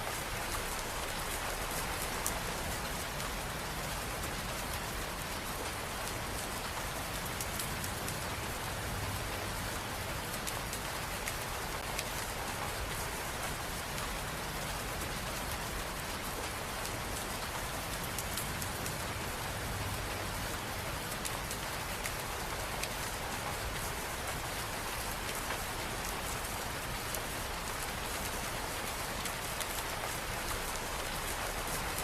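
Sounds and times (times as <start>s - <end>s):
raindrops ticking on surfaces: 0.0s - 32.0s
steady rain falling: 0.0s - 32.0s.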